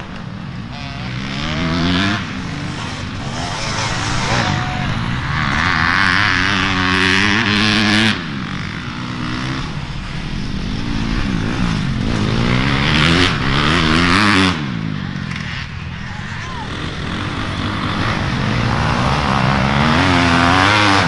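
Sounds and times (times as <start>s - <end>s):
dirt bike engine revving: 0.0s - 15.7s, 16.6s - 21.0s.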